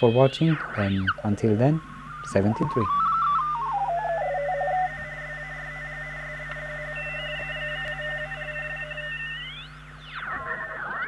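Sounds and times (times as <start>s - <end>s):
low hum: 0.0s - 11.0s
radio whistling tones: 0.0s - 11.0s.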